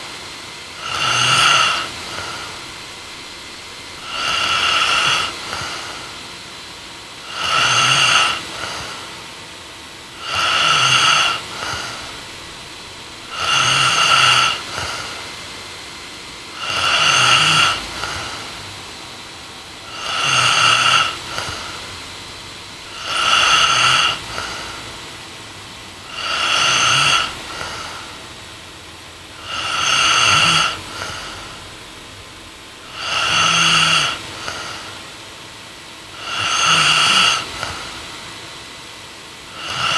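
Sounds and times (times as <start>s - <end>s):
woman snoring: 0.7s - 6.3s, 7.2s - 9.2s, 10.1s - 15.5s, 16.4s - 35.2s, 36.1s - 38.3s, 39.5s - 39.9s.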